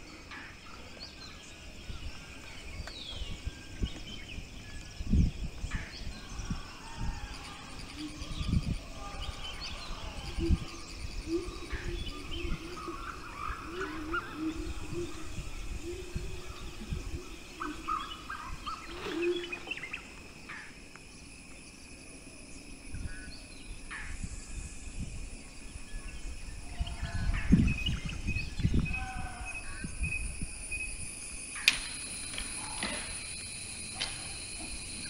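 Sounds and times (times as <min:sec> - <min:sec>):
wind rumble on microphone: 0:00.0 - 0:19.8, 0:22.3 - 0:35.0
birds chirping: 0:00.0 - 0:35.0.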